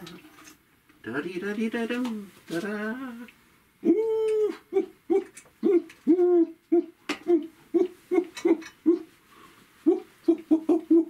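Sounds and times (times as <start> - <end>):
person vocalising a tune: 1.1 - 9.2, 9.8 - 11.0.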